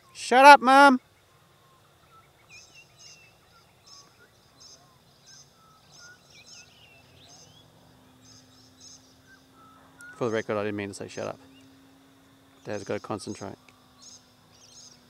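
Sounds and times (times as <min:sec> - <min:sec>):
birds chirping: 0:00.0 - 0:15.0
faint steady hum: 0:00.0 - 0:15.0.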